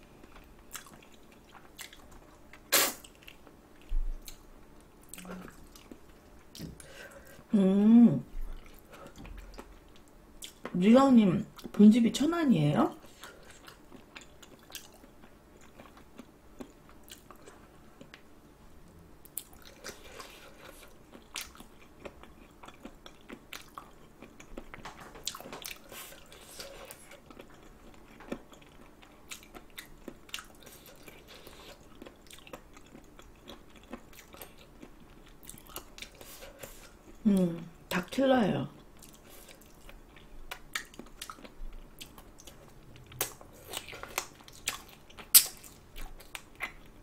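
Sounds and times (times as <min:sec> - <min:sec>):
chewing with small crunches: 0:00.0 - 0:07.5, 0:08.3 - 0:10.8, 0:12.9 - 0:38.1, 0:38.7 - 0:47.0.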